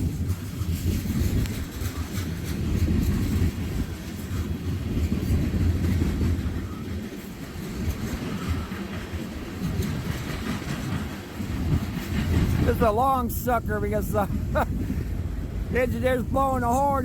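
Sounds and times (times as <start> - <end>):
freight train wheels rumbling: 0.0 - 17.0
wheels clicking over rail joints: 0.0 - 17.0.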